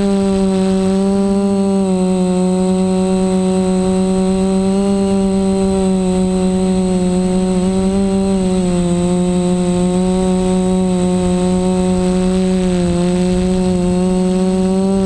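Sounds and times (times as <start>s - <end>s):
quadcopter motors buzzing: 0.0s - 15.0s.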